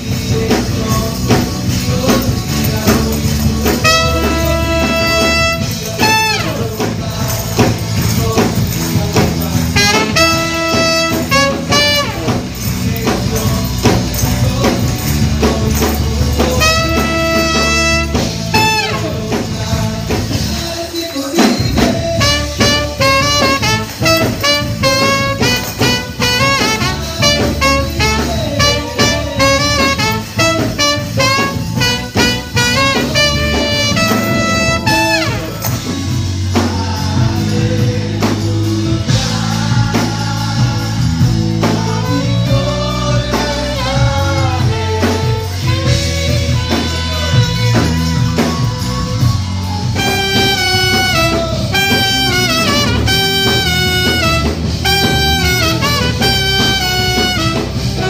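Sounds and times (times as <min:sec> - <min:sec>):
trumpet and saxophone: 0:00.0 - 0:20.6, 0:21.2 - 0:36.4, 0:41.3 - 0:58.0
low bass line: 0:00.0 - 0:20.7, 0:21.7 - 0:58.0
drums: 0:00.0 - 0:58.0.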